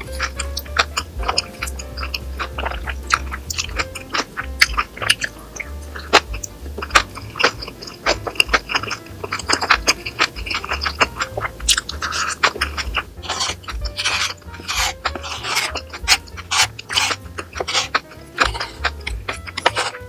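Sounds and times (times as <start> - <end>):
background music: 0.0 - 20.0
chewing and crunching food: 0.0 - 20.0.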